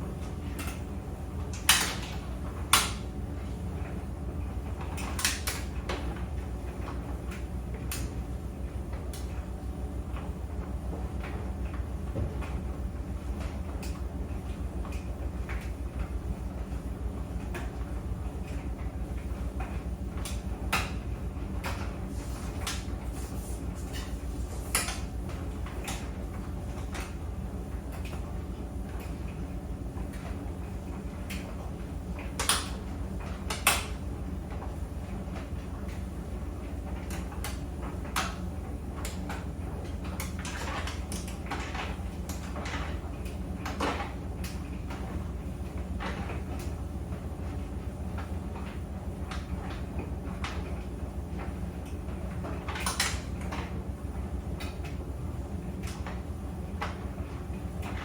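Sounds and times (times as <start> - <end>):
clothes dryer humming: 0.0 - 58.0
clicks and knocks of tumbling load: 0.1 - 55.1, 55.7 - 58.0.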